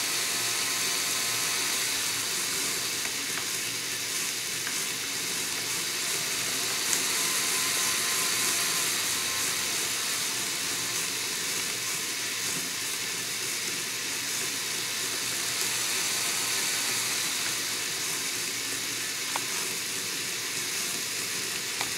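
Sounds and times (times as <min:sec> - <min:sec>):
whir of plastic gears: 0:00.0 - 0:21.9.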